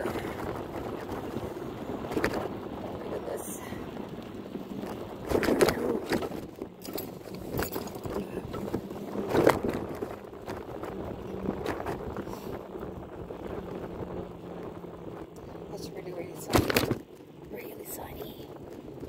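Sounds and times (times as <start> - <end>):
bicycle rattling over bumps: 0.0 - 19.0
bicycle riding rumble: 0.0 - 19.0.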